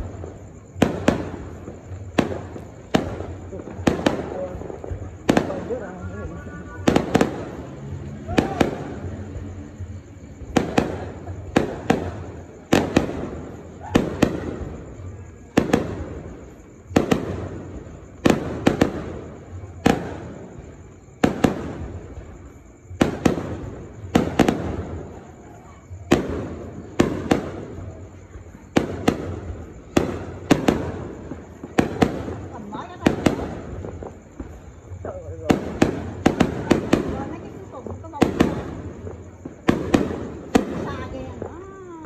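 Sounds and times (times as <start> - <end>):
fireworks bursting with echo: 0.0 - 42.0.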